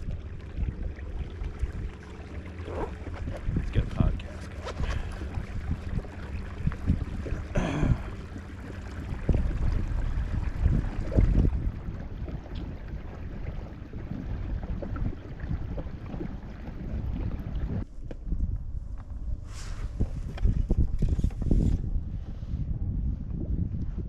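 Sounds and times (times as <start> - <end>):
water moving against kayak: 0.0 - 24.0
wind buffeting microphone: 0.0 - 24.0.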